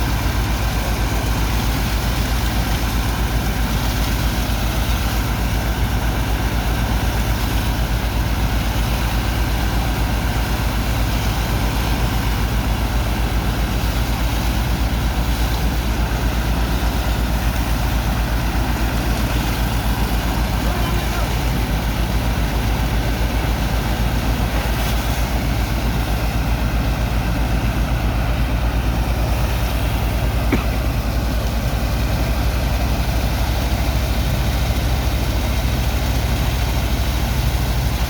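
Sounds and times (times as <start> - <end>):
dredger engine throbbing: 0.0 - 38.0.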